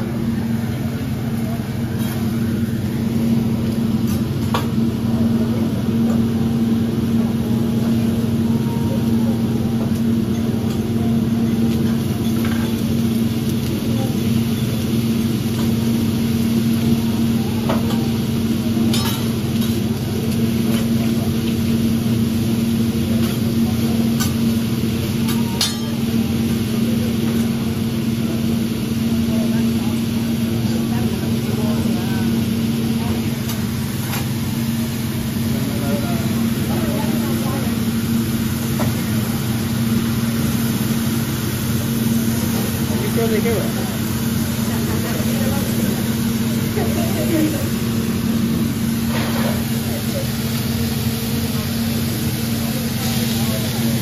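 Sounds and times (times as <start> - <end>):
food sizzling: 10.2 - 54.0.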